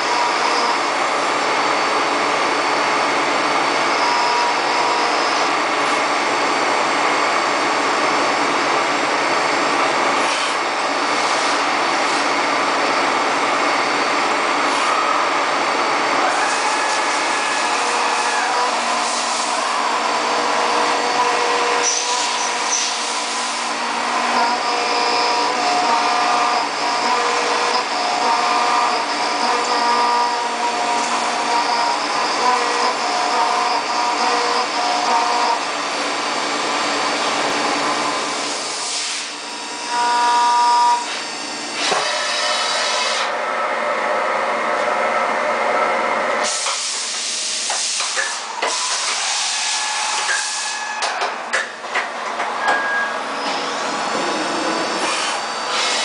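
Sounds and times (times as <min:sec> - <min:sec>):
milling machine cutting metal: 0:00.0 - 0:43.8, 0:46.4 - 0:56.0.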